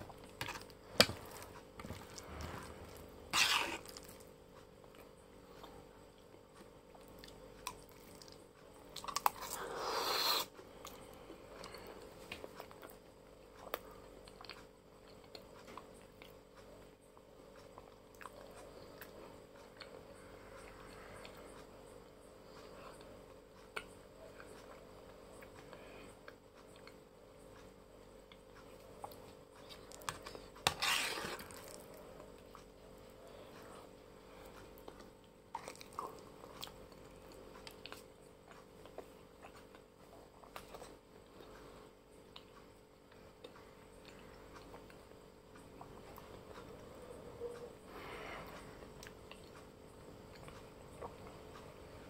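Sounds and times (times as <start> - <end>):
chewing noodles: 0.0 - 16.9, 17.5 - 21.7, 22.4 - 47.7
faint steady hum: 0.0 - 52.0.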